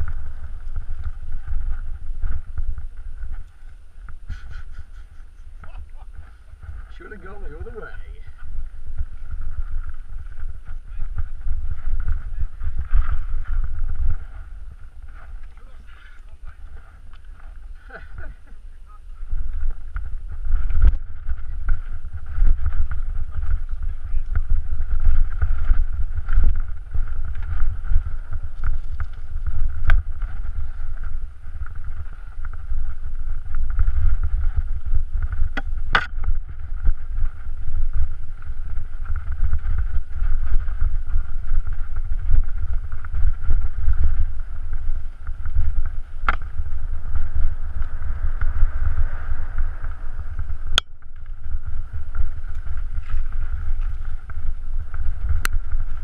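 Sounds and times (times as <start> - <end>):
bike rattling: 0.0 - 56.0
wind rumble on microphone: 0.0 - 56.0.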